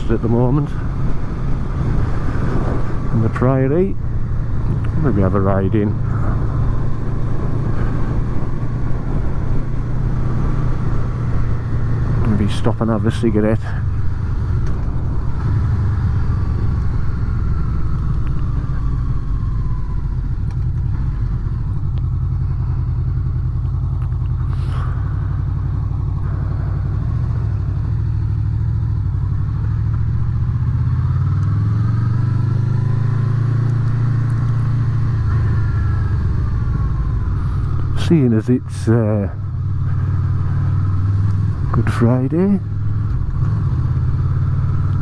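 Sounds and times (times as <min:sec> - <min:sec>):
motorcycle engine riding along: 0:00.0 - 0:45.0.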